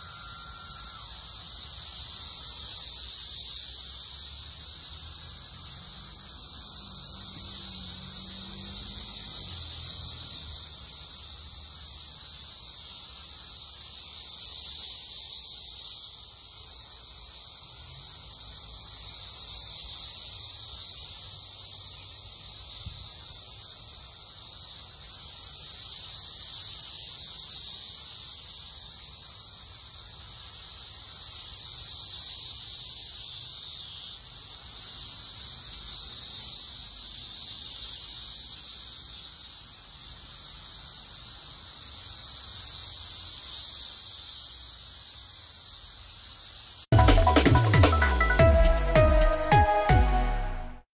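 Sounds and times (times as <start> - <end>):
cicadas buzzing: 0.0 - 49.5.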